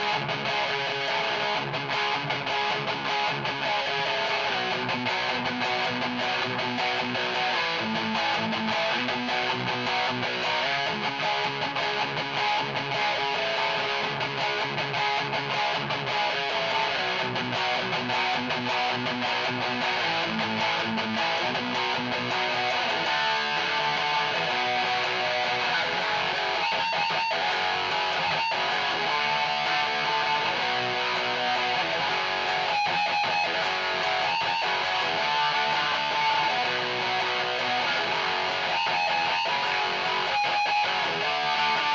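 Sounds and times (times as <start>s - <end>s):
distorted electric guitar riff: 0.0s - 41.9s.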